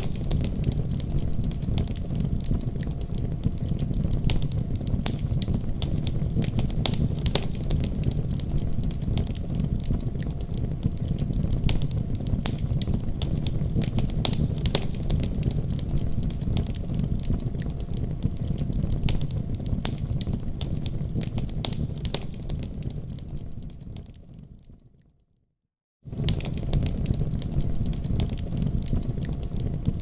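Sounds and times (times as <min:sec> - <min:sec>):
wood fire crackling and popping: 0:00.0 - 0:25.0, 0:26.1 - 0:30.0.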